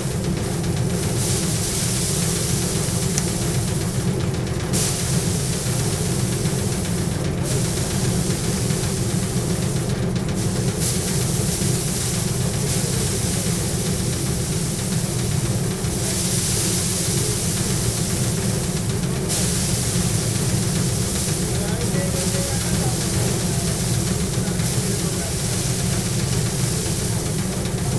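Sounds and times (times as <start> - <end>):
rushing hiss of grain and straw: 0.0 - 27.9
threshing machine humming: 0.0 - 27.9.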